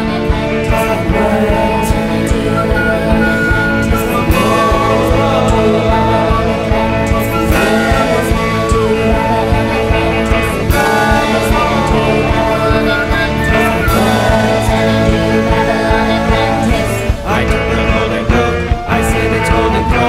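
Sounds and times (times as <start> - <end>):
electric guitar: 0.0 - 20.0
steady drum beat: 0.0 - 20.0.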